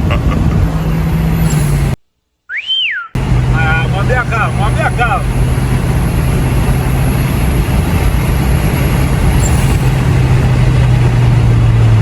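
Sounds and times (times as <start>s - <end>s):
car engine droning: 0.0s - 2.0s, 3.2s - 12.0s
road and wind noise: 0.0s - 2.0s, 3.2s - 12.0s.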